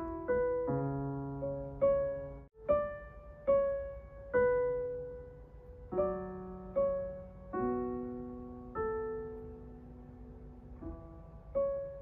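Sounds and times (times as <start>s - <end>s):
slow electric piano music: 0.0s - 12.0s.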